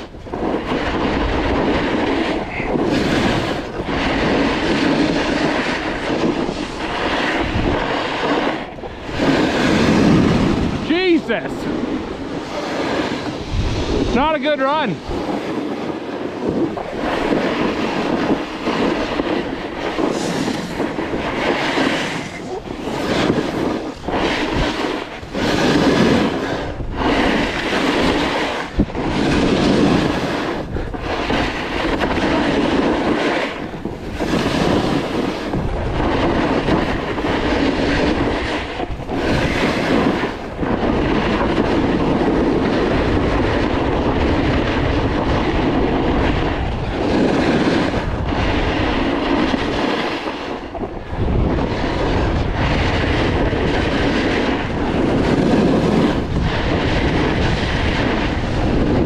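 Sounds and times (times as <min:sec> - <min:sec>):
snowboard scraping over snow: 0:00.0 - 0:59.0.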